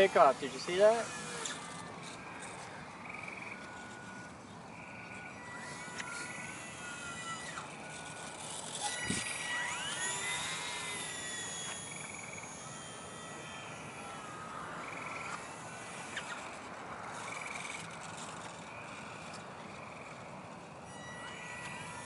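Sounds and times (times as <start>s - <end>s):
frogs trilling: 0.0s - 22.0s
model glider motor whining: 0.0s - 22.0s.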